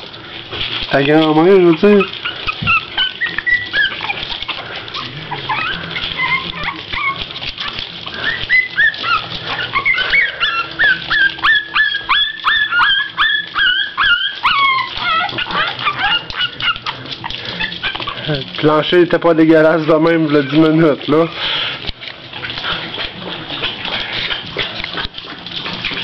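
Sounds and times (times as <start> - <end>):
puppies whimpering and yipping: 0.0 - 26.0.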